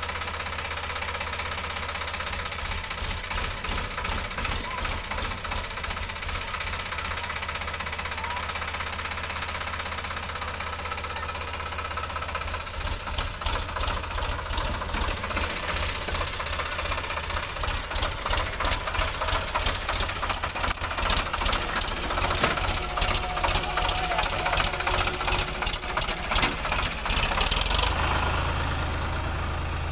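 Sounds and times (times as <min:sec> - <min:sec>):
tractor diesel engine knocking: 0:00.0 - 0:29.9.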